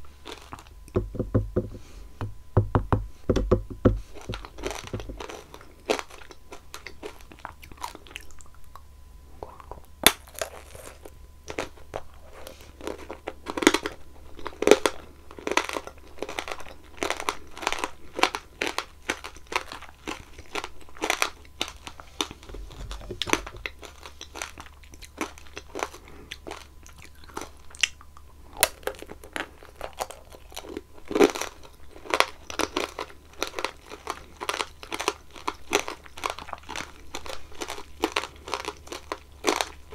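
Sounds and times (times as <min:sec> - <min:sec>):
crunching candy shell: 0:00.2 - 0:01.0, 0:03.4 - 0:08.7, 0:09.4 - 0:39.9.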